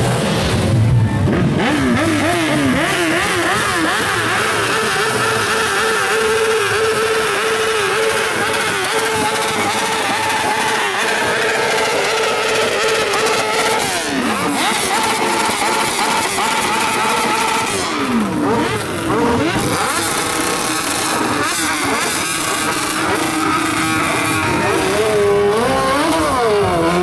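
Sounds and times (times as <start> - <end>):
motorcycle engine at high revs: 0.0 - 27.0
motorcycles revving: 0.0 - 27.0.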